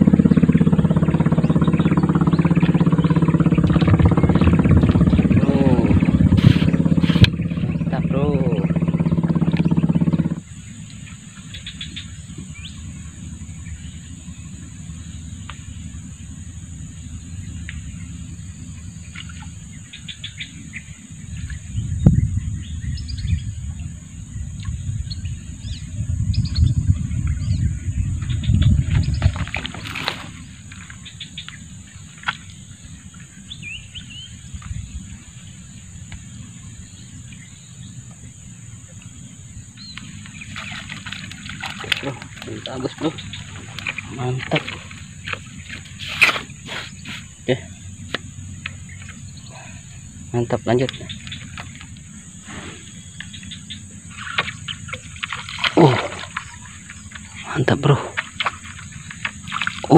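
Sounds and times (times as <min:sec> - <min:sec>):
birds chirping: 0:00.0 - 0:59.9
low rumbling: 0:00.0 - 0:59.9.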